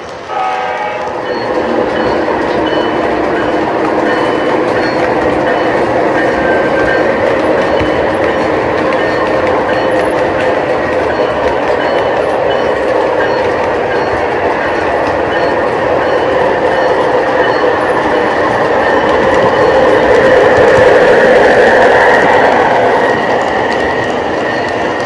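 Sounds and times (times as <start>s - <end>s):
model train wheels on rails: 0.0s - 25.0s.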